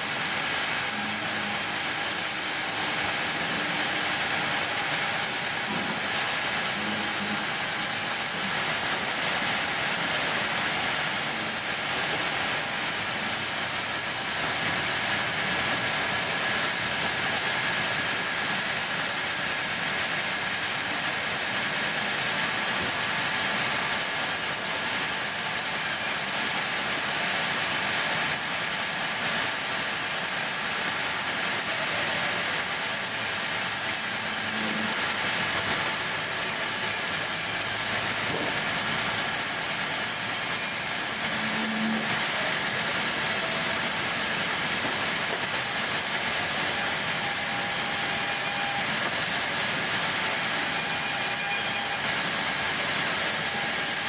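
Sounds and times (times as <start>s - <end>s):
band saw cutting wood: 0.0s - 54.0s.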